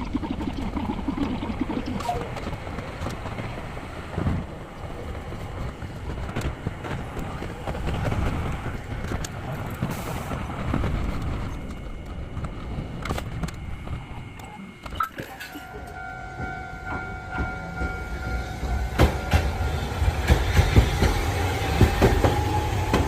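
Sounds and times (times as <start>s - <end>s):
streetcar wheels and motor rumble: 0.0s - 23.0s.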